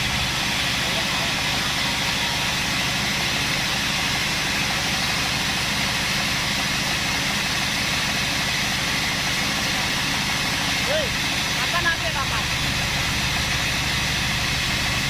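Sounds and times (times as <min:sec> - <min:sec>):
band saw machinery humming: 0:00.0 - 0:15.0.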